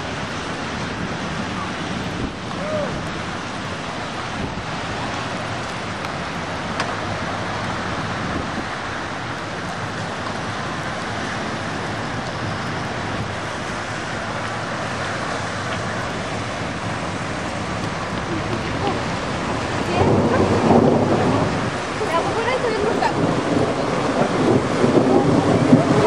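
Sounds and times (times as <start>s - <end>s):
heavy rain pouring: 0.0s - 26.0s
traffic driving through water: 0.0s - 26.0s.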